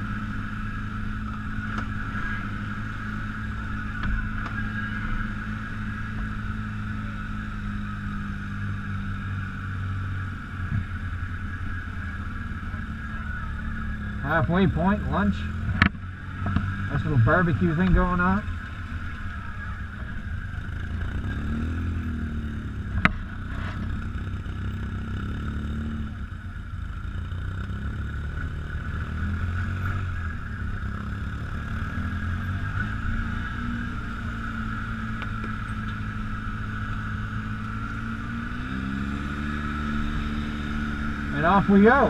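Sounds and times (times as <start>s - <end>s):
atv engine running: 0.0s - 42.0s
high whine: 0.0s - 42.0s.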